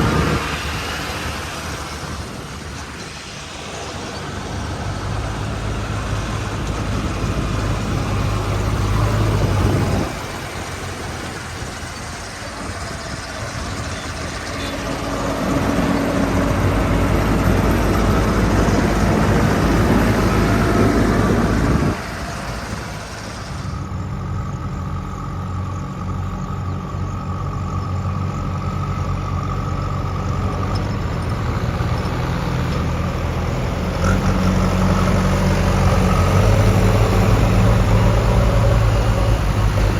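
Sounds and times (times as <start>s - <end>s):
diesel engine running: 0.0s - 39.9s
rushing noise: 0.0s - 39.9s.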